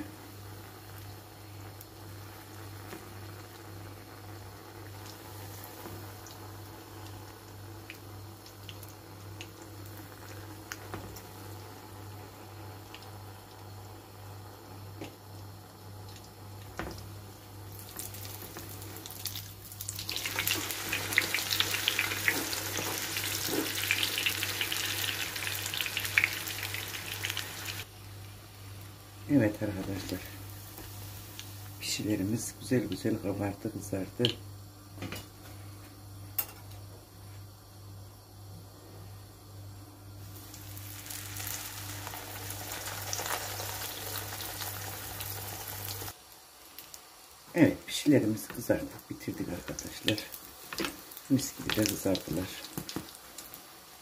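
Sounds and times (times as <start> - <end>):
dough frying in sizzling oil: 0.0 - 36.4, 39.6 - 54.0.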